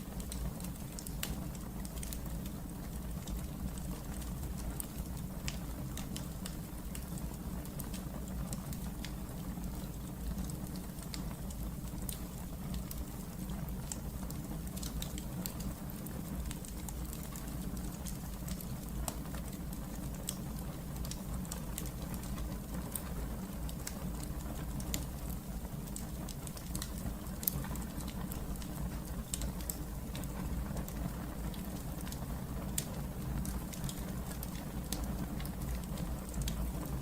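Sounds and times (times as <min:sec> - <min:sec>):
fireplace fire crackling: 0:00.0 - 0:37.0.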